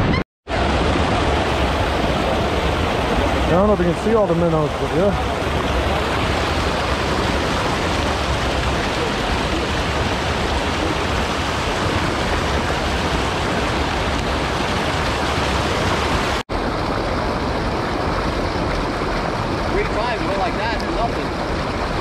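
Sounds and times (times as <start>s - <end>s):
water rushing over spillway: 0.5s - 22.0s.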